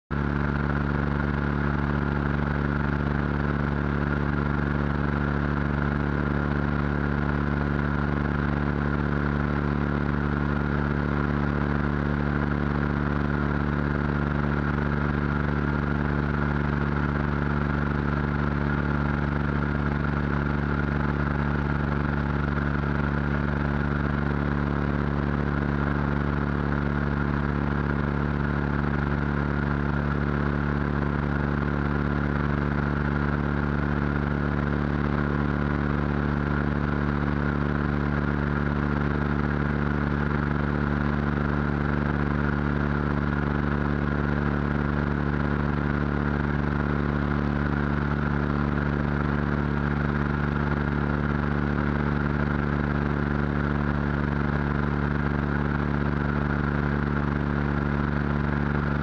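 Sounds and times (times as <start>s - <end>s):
propeller aircraft engine droning: 0.1s - 59.0s.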